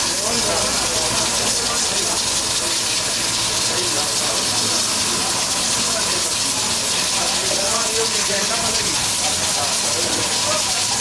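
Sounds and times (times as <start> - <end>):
broth boiling hard: 0.0 - 11.0
gas burners hissing: 0.0 - 11.0.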